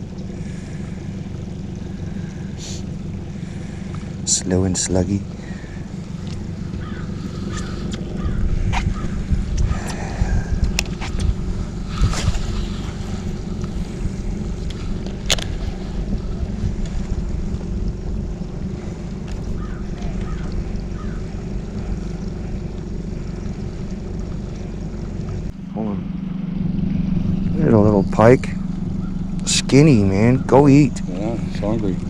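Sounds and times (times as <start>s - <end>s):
boat motor running: 0.0s - 32.0s.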